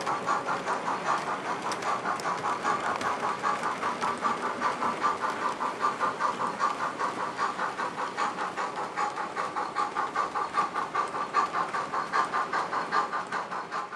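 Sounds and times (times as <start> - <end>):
steam locomotive exhaust chuffs: 0.0 - 13.9.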